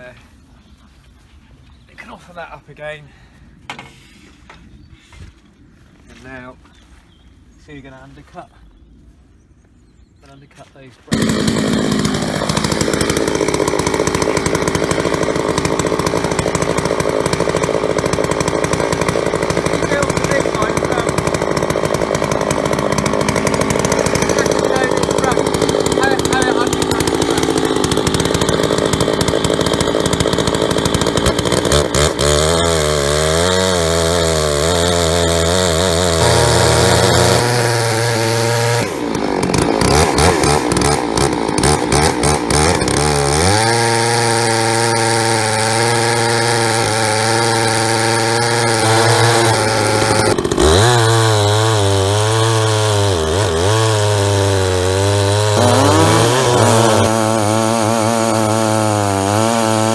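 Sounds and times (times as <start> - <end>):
chainsaw cutting log: 11.1 - 59.9.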